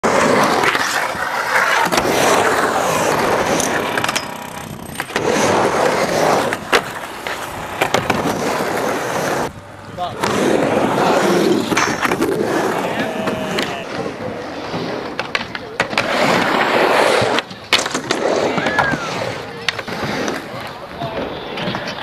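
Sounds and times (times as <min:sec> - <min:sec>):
skateboard clacking: 0:00.0 - 0:22.0
skateboard wheels rolling on concrete: 0:00.0 - 0:22.0.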